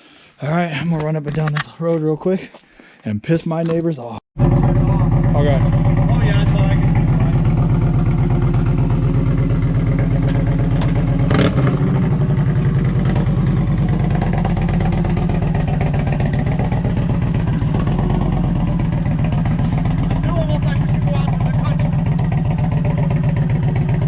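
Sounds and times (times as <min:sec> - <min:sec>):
motorcycle idling loudly: 0:04.4 - 0:24.0.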